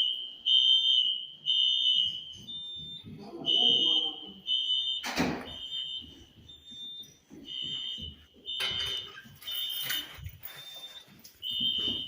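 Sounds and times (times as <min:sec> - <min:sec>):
fire alarm horns pulsing: 0:00.0 - 0:12.0.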